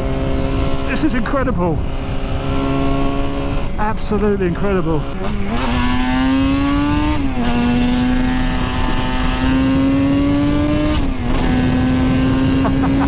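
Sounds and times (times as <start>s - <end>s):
two-stroke engine accelerating: 0.0s - 13.0s.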